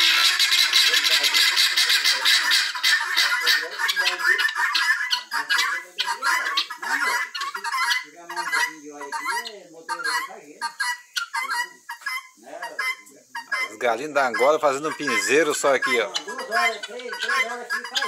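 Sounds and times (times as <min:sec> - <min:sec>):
guineafowl cackling: 0:00.0 - 0:18.0.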